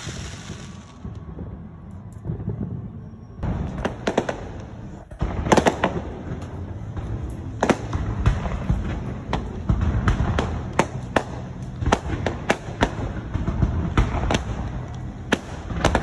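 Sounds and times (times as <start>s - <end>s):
fireworks bursting: 0.0s - 16.0s
low continuous rumble: 0.0s - 16.0s.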